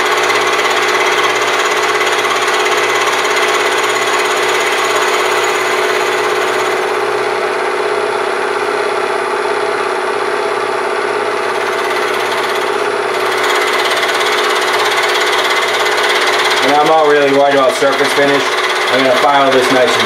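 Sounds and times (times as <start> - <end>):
metal cutting noise: 0.0 - 9.3, 11.1 - 20.0
milling machine whine: 0.0 - 20.0.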